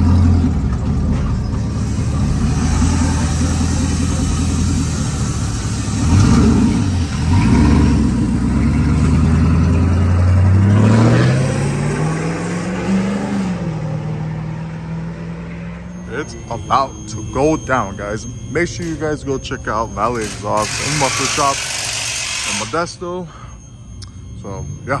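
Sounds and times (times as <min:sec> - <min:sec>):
truck engine running: 0:00.0 - 0:15.1, 0:15.7 - 0:25.0.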